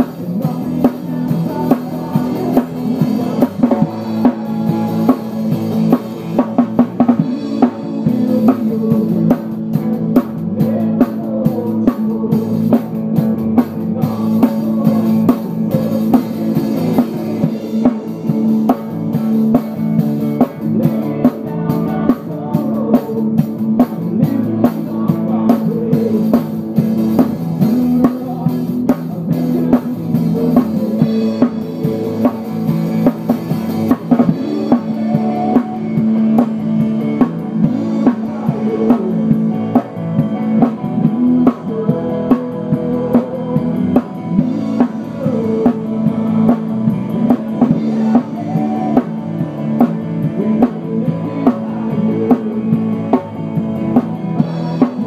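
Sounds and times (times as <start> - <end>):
drums playing a steady beat: 0.0 - 55.0.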